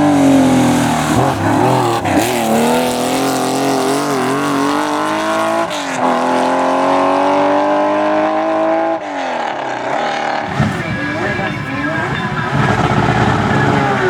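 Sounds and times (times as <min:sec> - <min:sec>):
racing car engine accelerating: 0:00.0 - 0:14.0.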